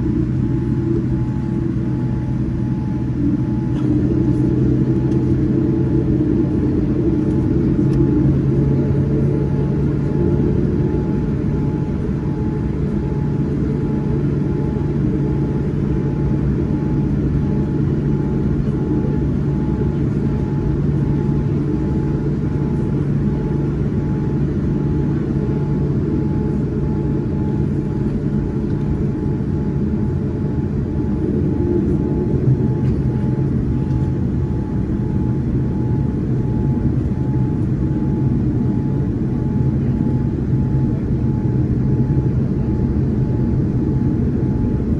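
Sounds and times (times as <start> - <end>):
airplane cabin engine rumble: 0.0 - 44.9
faint engine whine: 0.0 - 44.9.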